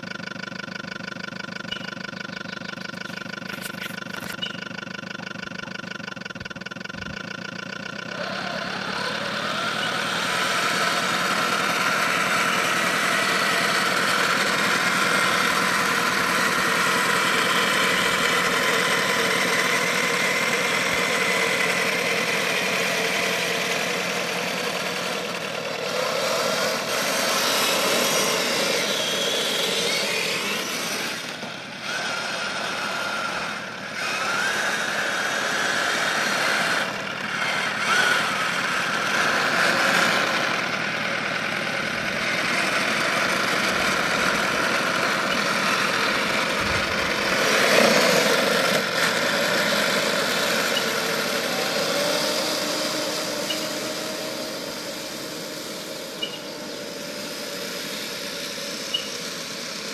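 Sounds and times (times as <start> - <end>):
model tank mechanical whine: 0.0 - 59.9.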